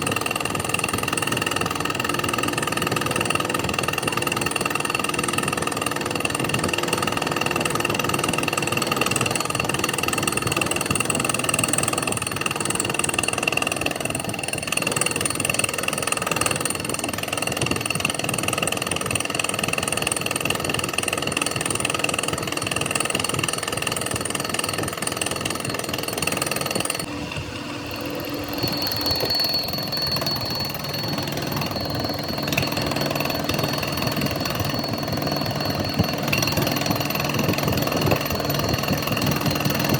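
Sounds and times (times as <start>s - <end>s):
metalworking machinery whining: 0.0s - 39.9s.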